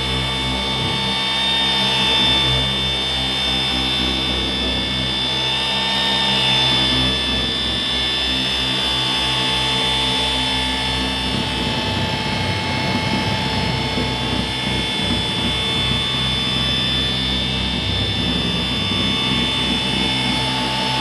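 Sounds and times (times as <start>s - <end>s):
orbital polisher motor whine: 0.0s - 21.0s.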